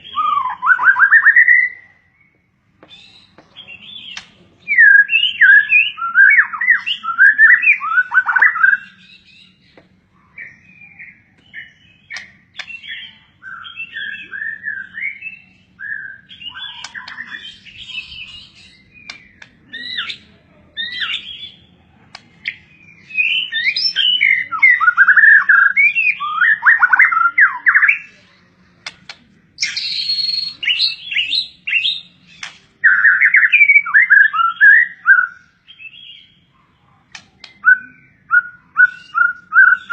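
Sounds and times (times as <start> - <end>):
songbird chirping and warbling: 0.0 - 39.9.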